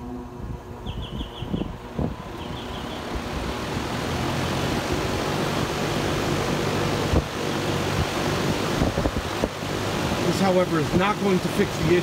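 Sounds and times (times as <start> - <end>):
fan whoosh and motor hum: 0.0 - 12.0.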